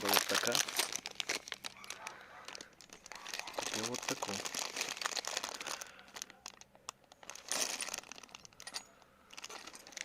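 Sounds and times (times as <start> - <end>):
paper or plastic rustling: 0.0 - 10.0.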